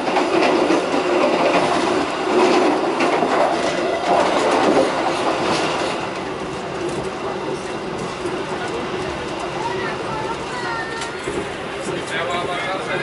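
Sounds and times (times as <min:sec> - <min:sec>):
clickety-clack over track joints: 0:00.0 - 0:13.0
train wheels rumbling on rails: 0:00.0 - 0:13.0.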